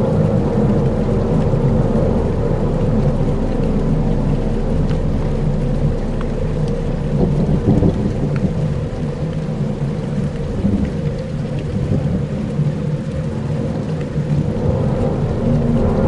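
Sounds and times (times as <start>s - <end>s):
dense low rumble: 0.0s - 16.0s
rain-like hiss: 0.0s - 16.0s
faint ticks: 2.8s - 15.9s.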